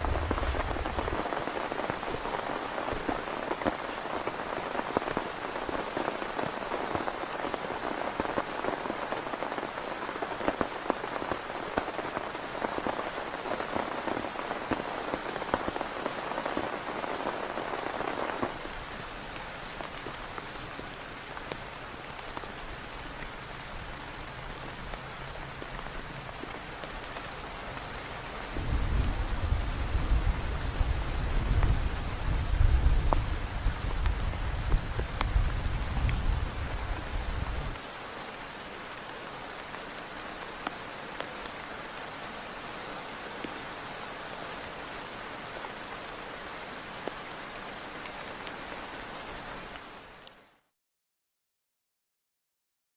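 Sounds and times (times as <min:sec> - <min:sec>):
heavy rain falling: 0:00.0 - 0:50.6.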